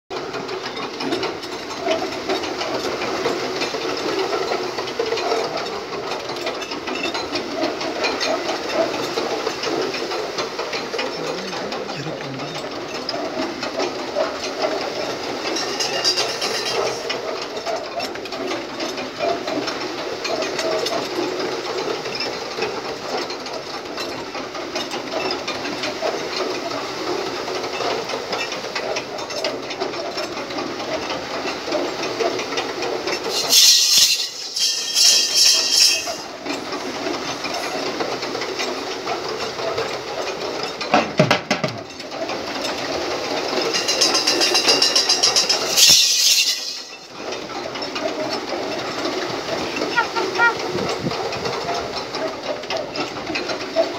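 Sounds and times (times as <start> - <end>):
wooden sled scraping over dirt: 0.1 - 53.9.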